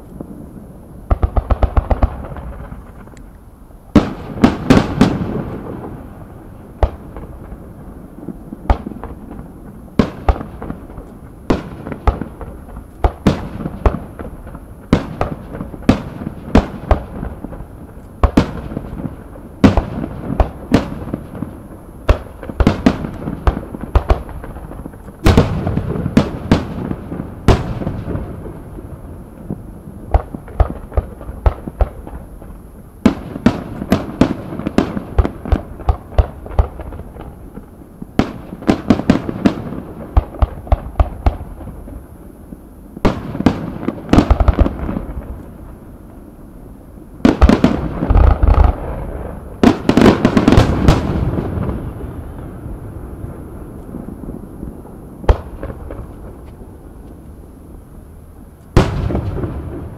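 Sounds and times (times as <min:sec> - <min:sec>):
fireworks bangs: 0:00.0 - 0:03.2, 0:03.8 - 0:46.4, 0:47.1 - 0:57.2, 0:58.7 - 0:59.9.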